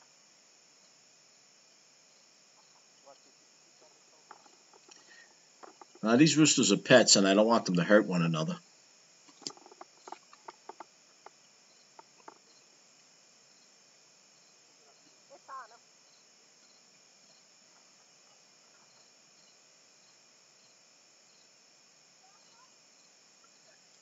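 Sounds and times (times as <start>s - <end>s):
insect chorus buzzing and chirping: 0.0s - 24.0s.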